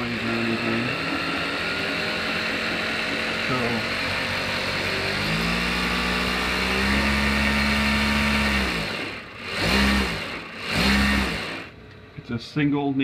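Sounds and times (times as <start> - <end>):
sewing machine motor humming: 0.0 - 11.7
sewing machine running: 0.0 - 11.7.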